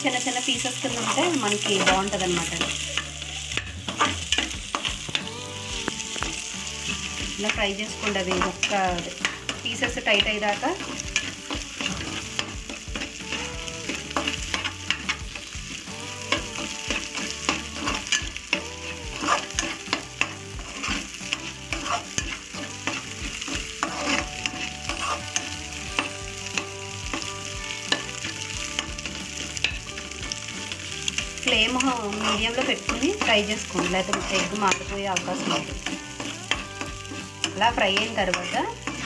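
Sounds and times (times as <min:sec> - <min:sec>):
eggs sizzling in hot oil: 0:00.0 - 0:39.0
spatula scraping and knocking pan: 0:00.8 - 0:39.0.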